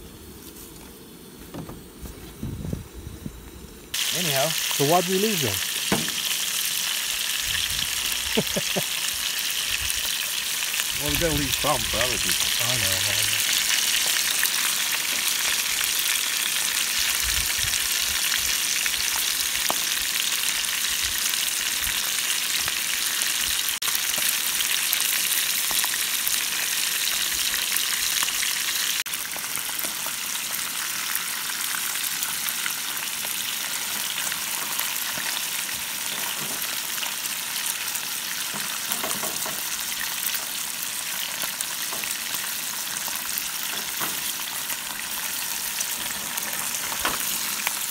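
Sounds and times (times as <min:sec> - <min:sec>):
fish sizzling in a pan: 0:03.9 - 0:47.9.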